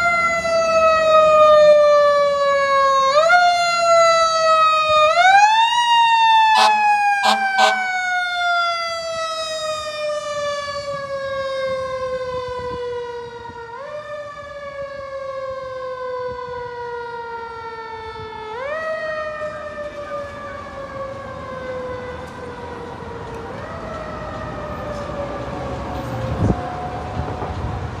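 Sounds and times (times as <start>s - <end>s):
fire engine siren wailing: 0.0s - 28.0s.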